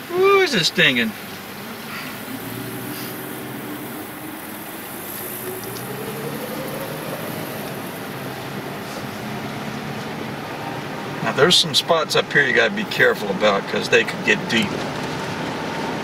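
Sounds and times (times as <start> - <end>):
vehicle engine on rough dirt road: 0.0 - 16.0.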